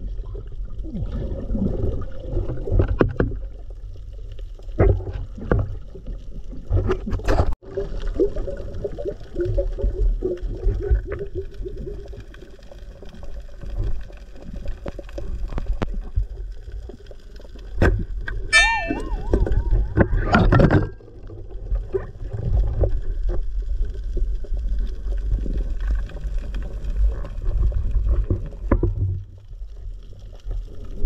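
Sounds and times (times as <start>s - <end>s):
muffled underwater rumble: 0.0s - 31.0s.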